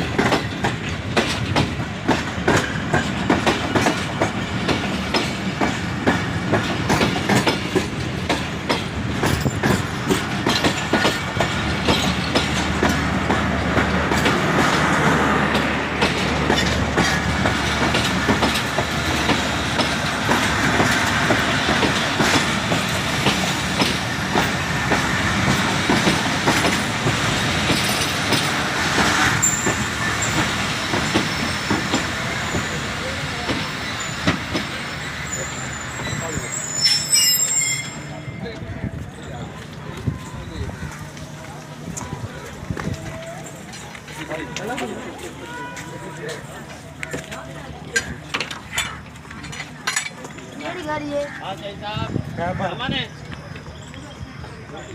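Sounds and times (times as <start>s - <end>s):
train wheels clacking on rails: 0.0s - 51.3s.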